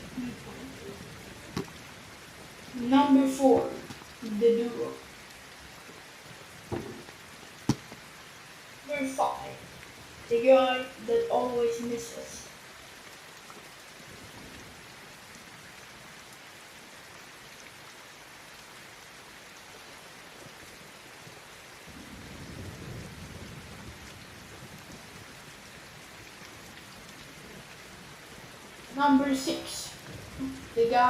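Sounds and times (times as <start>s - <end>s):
rain: 0.0s - 31.0s.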